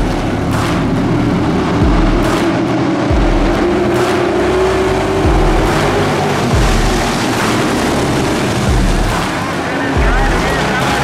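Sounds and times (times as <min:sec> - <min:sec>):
deep bass music beat: 0:00.0 - 0:11.0
stock car engines racing: 0:00.0 - 0:11.0.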